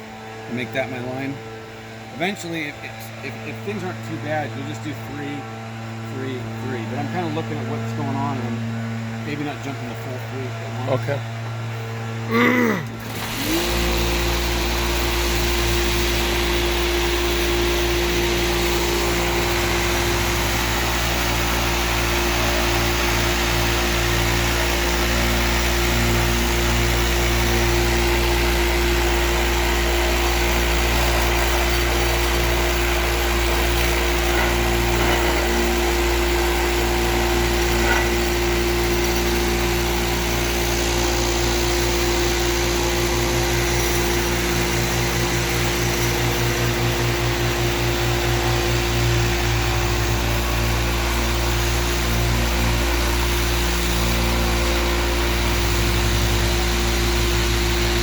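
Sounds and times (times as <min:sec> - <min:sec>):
floor sander motor hum: 0:00.0 - 0:58.0.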